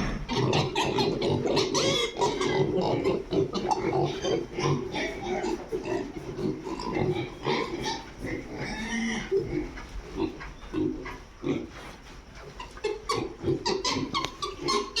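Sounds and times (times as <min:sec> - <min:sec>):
pig squealing: 0:00.0 - 0:11.7, 0:12.6 - 0:15.0
pigs grunting: 0:00.0 - 0:15.0.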